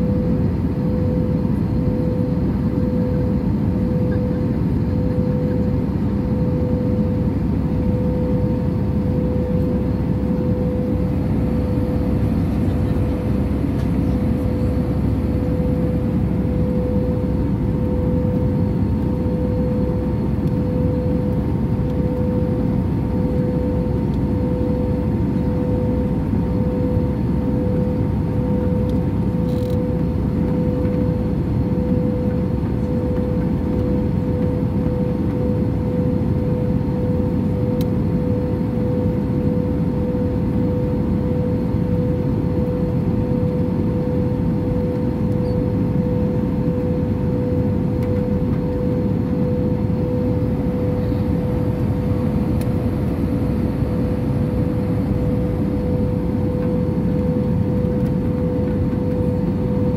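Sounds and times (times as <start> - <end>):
engines and airflow roar: 0.0 - 59.9
steady droning tone: 0.0 - 59.9.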